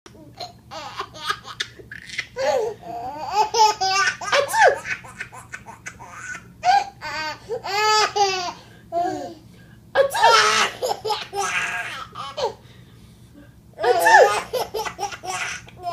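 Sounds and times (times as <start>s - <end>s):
baby laughing: 0.4s - 9.4s, 10.0s - 12.6s, 13.8s - 15.9s.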